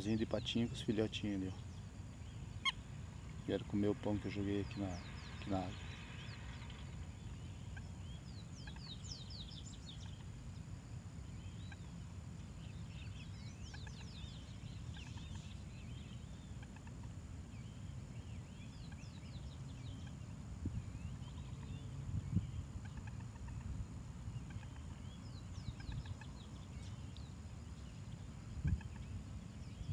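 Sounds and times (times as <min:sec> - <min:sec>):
birds chirping: 0:00.0 - 0:29.9
steady low rumble: 0:00.6 - 0:29.9.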